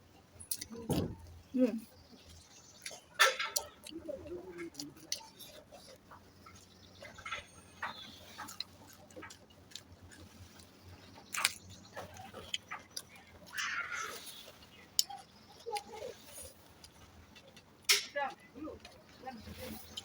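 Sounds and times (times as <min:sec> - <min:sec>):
chewing: 0:00.3 - 0:20.0.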